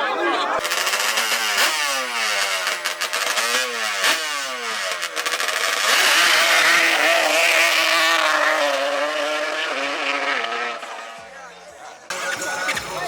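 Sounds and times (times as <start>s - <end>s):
racing engine at high revs: 0.6s - 11.4s.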